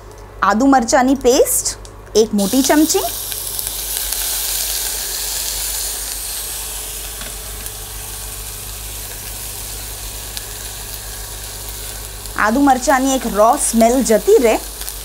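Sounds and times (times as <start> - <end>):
paste sizzling in hot oil: 2.5 - 15.0.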